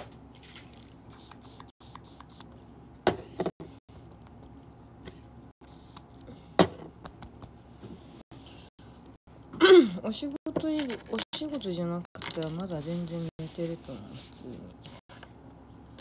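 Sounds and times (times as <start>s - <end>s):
low steady background hum: 0.0s - 16.0s.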